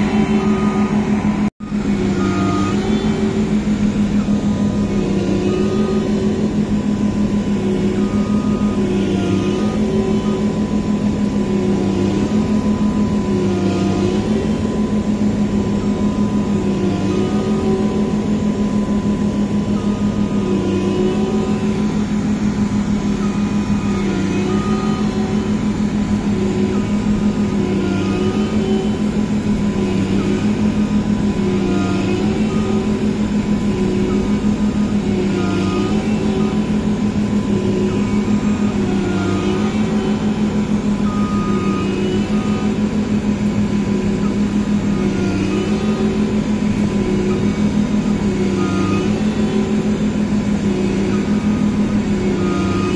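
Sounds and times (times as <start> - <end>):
combine harvester engine drone: 0.0 - 52.9
short pitched squeals: 0.0 - 52.9
thin steady tone: 0.0 - 52.9.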